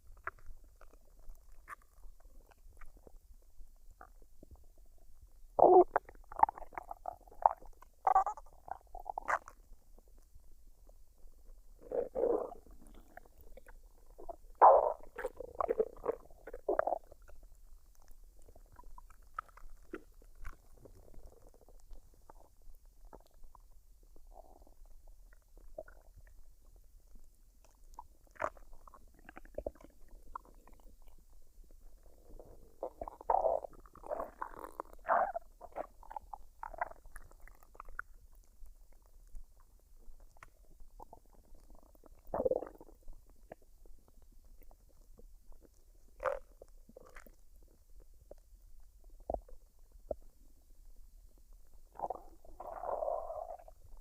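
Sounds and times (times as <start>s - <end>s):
stomach gurgling: 0.0s - 54.0s.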